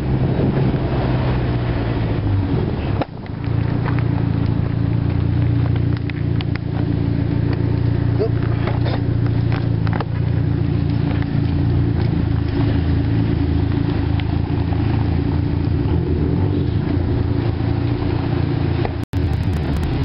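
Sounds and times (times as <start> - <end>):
car engine idling: 2.1 - 15.9, 16.6 - 20.0.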